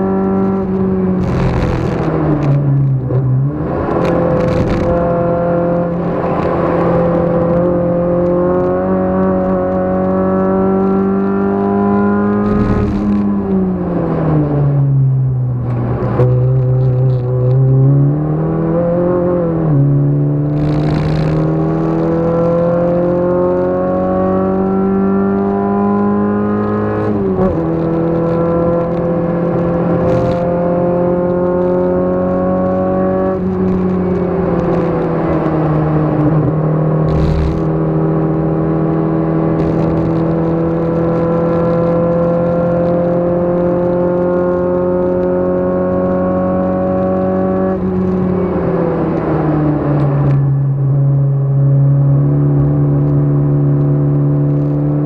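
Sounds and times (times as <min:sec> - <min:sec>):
race car engine revving: 0:00.0 - 0:14.8, 0:15.6 - 0:55.0.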